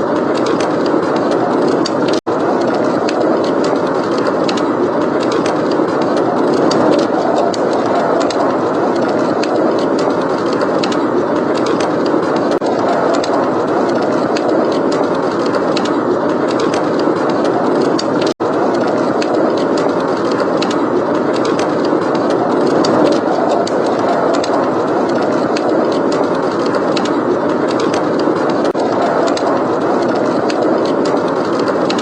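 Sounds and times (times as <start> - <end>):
blizzard wind: 0.0 - 32.0
wood fire crackling: 0.0 - 32.0.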